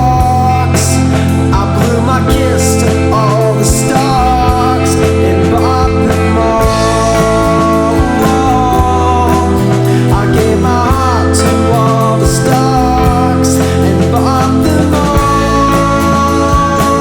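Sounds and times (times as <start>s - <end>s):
psychedelic rock instrumental: 0.0s - 17.0s.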